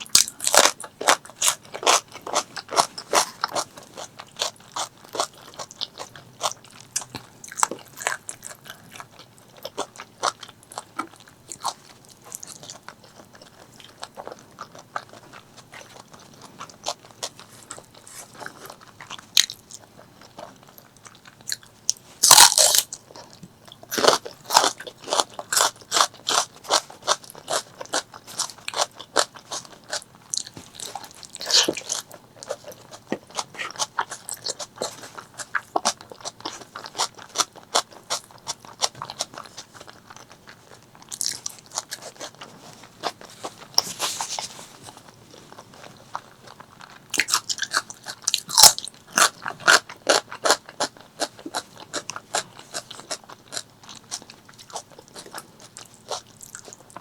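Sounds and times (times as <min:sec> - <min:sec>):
close chewing and biting: 0:00.0 - 0:57.0
food crunching: 0:00.0 - 0:57.0.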